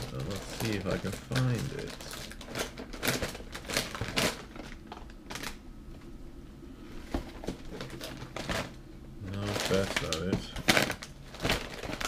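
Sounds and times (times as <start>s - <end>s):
plastic wrappers crinkling: 0.0s - 5.7s, 7.1s - 12.0s.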